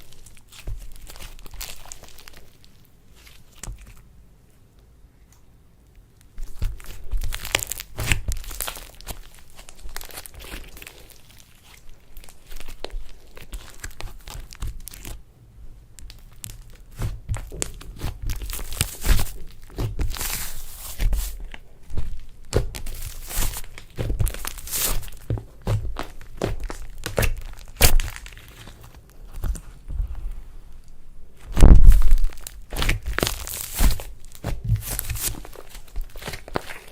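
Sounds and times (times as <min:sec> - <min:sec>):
slime crackling and rustling: 0:00.0 - 0:04.1, 0:06.2 - 0:36.9.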